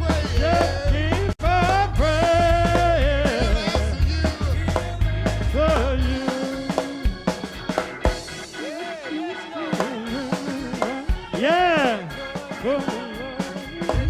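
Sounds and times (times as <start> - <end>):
person singing: 0.0 - 7.7, 8.5 - 14.0
band with bass and drums: 0.0 - 14.0.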